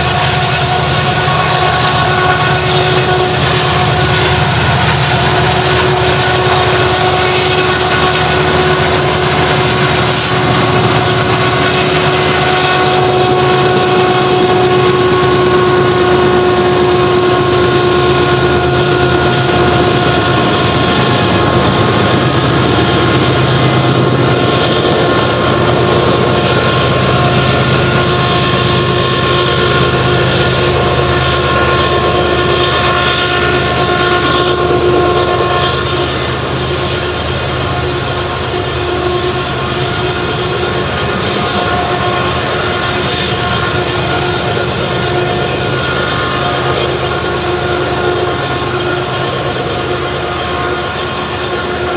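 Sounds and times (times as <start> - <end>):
locomotive engines whining: 0.0 - 51.9.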